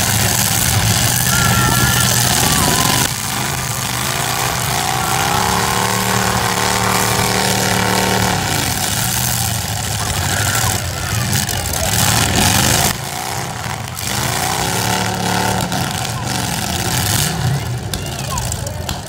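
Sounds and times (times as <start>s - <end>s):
car engines running loudly: 0.0s - 19.0s
engine revving: 0.0s - 19.0s.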